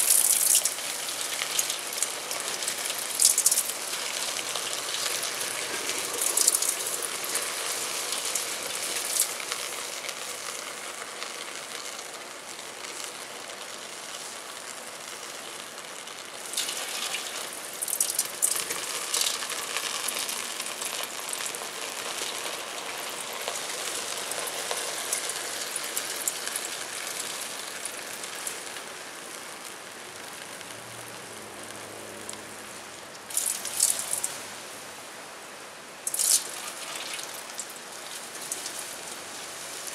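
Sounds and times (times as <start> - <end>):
burning metal sizzling hiss: 0.0 - 39.9.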